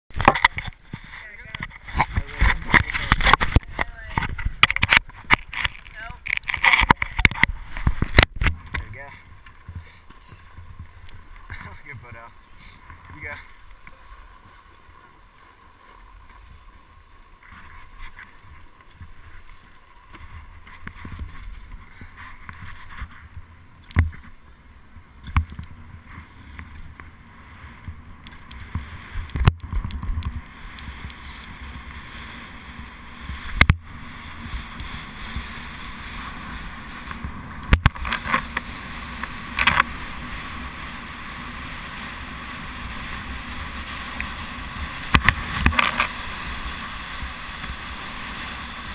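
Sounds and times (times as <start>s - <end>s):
skis scraping over snow: 0.1s - 48.9s.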